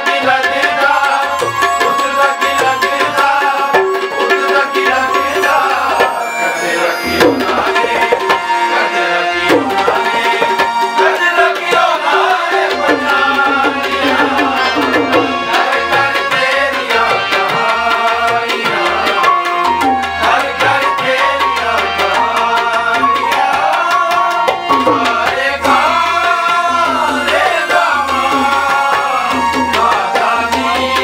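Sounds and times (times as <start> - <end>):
electronic keyboard melody: 0.0 - 31.0
harmonium: 0.0 - 31.0
tabla drums: 0.0 - 31.0.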